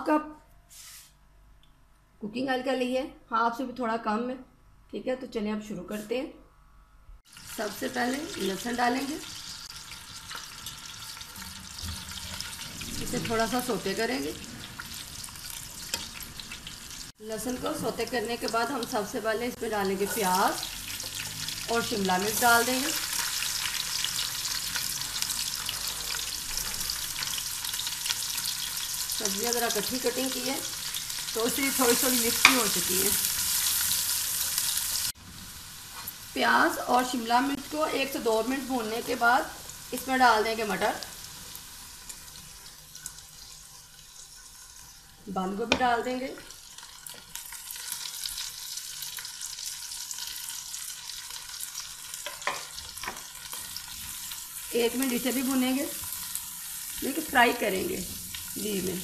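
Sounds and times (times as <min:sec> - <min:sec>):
vegetables sizzling in hot oil: 0:07.3 - 0:59.0.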